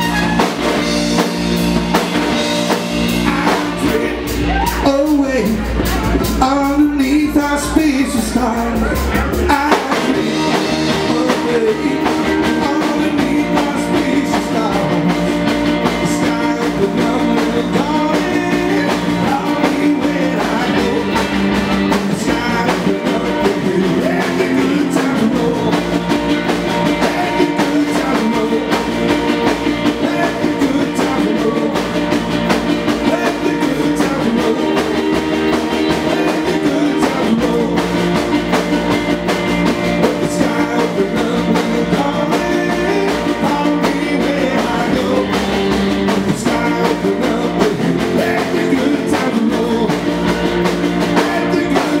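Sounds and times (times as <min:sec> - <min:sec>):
double bass: 0:00.0 - 0:52.0
drum kit: 0:00.0 - 0:52.0
electric guitar: 0:00.0 - 0:52.0
man singing into a microphone: 0:03.1 - 0:32.2, 0:32.9 - 0:38.2, 0:39.9 - 0:52.0.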